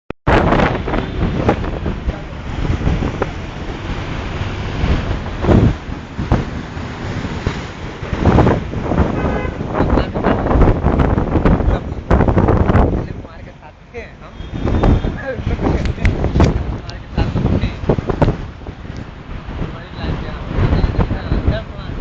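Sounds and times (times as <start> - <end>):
sea surf: 0.3 - 22.0
wind buffeting microphone: 0.3 - 22.0.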